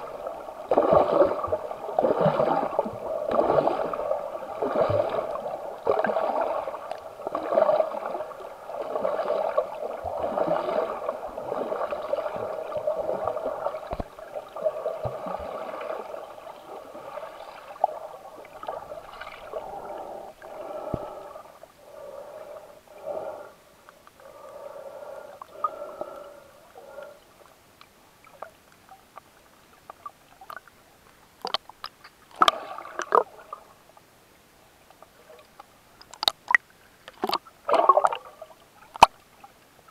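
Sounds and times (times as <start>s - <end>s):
underwater water gurgling: 0.0s - 39.9s.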